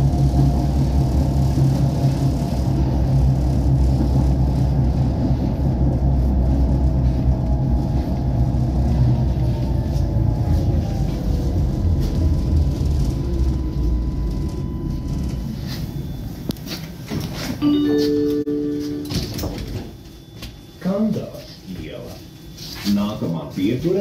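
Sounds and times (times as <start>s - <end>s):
tram wheels rumbling on rail: 0.0s - 20.0s
faint motor whine: 0.0s - 24.0s.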